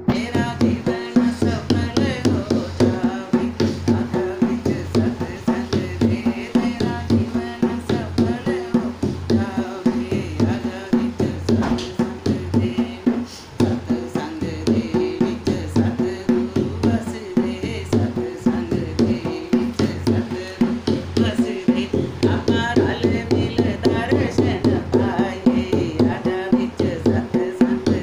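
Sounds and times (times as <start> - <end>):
barrel drum beat: 0.0 - 28.0
woman singing: 0.0 - 28.0.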